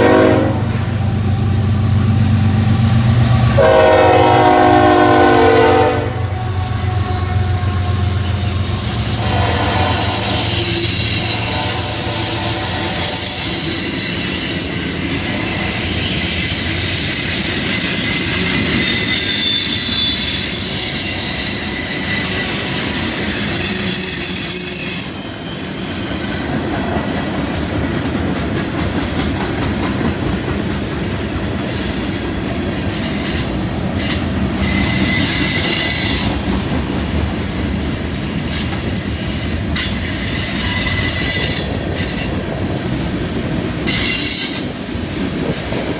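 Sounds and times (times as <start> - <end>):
wheel flanges squealing on rail: 0.0 - 27.9, 30.9 - 45.9
freight train cars rumbling: 0.0 - 45.9
train wheels clicking: 6.3 - 45.9.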